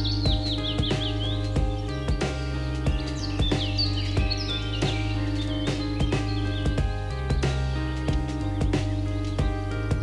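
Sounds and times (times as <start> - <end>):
high bird chirps: 0.0 - 9.5
background music with steady beat: 0.0 - 10.0.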